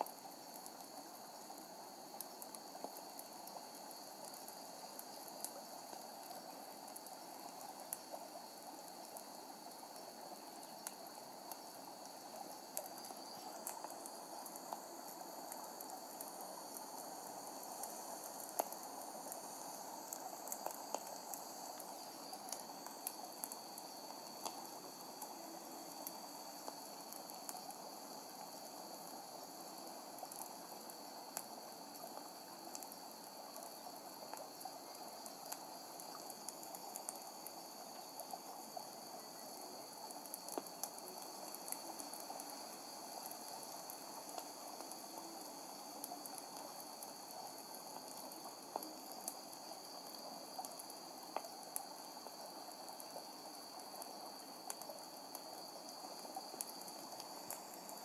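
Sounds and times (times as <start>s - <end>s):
campfire crackling: 0.0s - 58.0s
crickets chirring: 0.0s - 58.0s.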